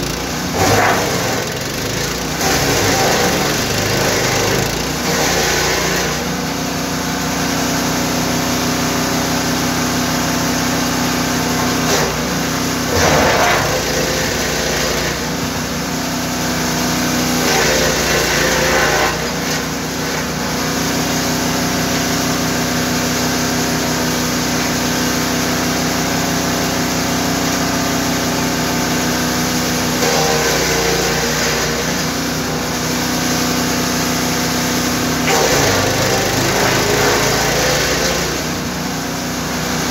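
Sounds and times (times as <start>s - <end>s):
wood chipper engine running: 0.0s - 39.9s.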